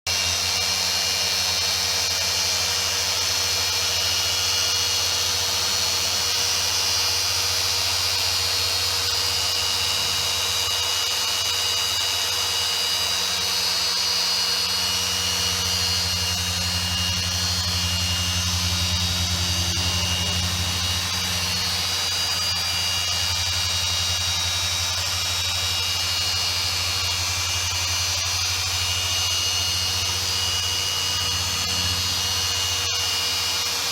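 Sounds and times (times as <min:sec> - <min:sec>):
machine polisher motor whine: 0:00.1 - 0:33.9.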